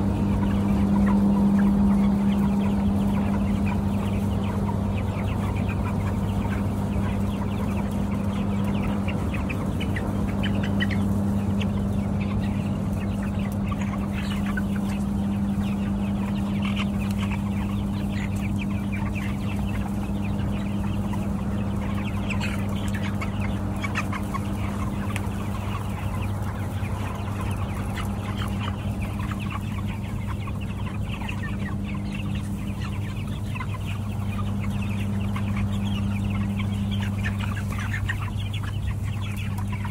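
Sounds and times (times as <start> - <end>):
chickens clucking: 0.0 - 39.9
steady low hum: 0.0 - 39.9.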